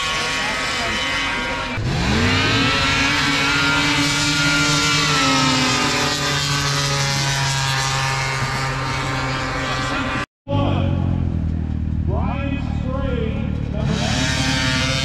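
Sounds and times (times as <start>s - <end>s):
snowmobile engines at full throttle: 0.0s - 15.0s.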